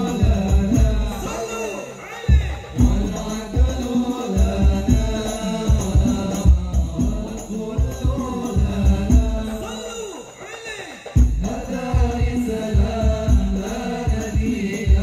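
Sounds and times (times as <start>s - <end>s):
frame drums with jingles: 0.0s - 15.0s
men chanting through a pa: 0.0s - 15.0s.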